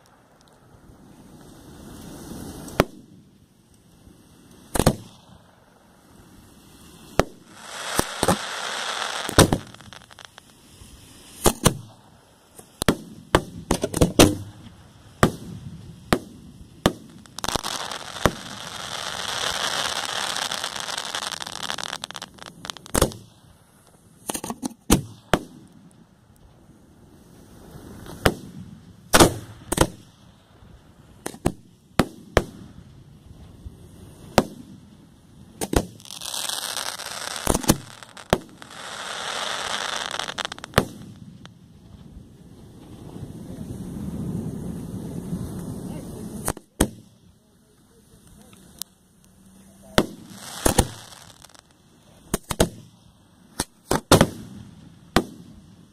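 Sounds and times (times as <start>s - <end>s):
fireworks bangs: 0.0s - 3.3s, 4.5s - 23.5s, 24.2s - 26.1s, 27.5s - 55.9s
fireworks hiss: 0.0s - 55.9s.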